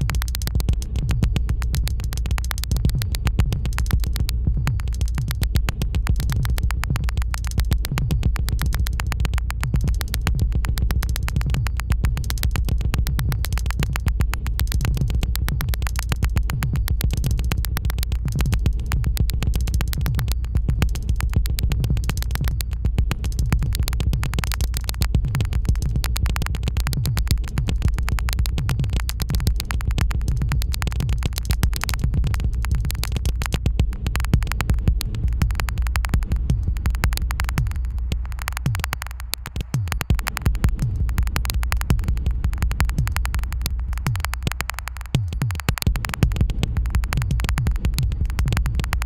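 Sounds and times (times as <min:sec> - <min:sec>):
low bass figure: 0:00.0 - 0:39.1, 0:39.7 - 0:44.6, 0:45.2 - 0:49.0
low bass drone: 0:00.0 - 0:39.4, 0:40.0 - 0:44.6, 0:45.2 - 0:49.0
fast synthesizer clicking pulses: 0:00.0 - 0:49.0.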